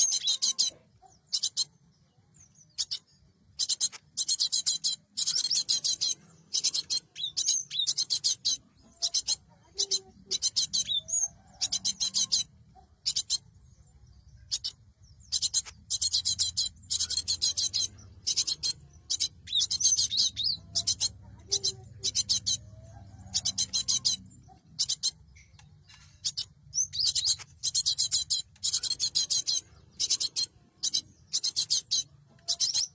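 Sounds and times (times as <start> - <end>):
bird chattering: 0.0 - 32.9.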